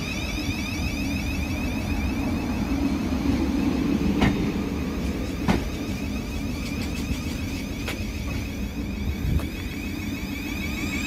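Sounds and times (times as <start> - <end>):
electric traction whine: 0.0 - 11.0
train rolling rumble: 0.0 - 11.0.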